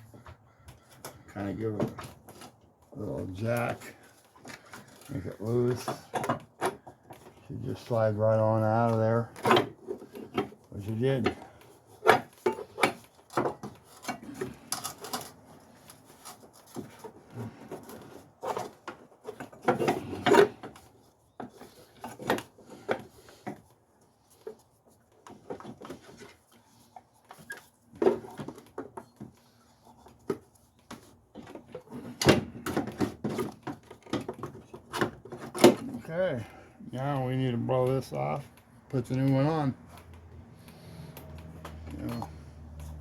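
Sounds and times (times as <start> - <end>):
hand tools clanking and scraping: 0.0 - 43.0.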